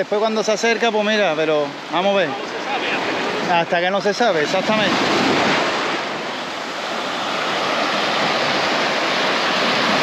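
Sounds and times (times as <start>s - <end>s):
waves washing onto beach: 0.0s - 10.0s.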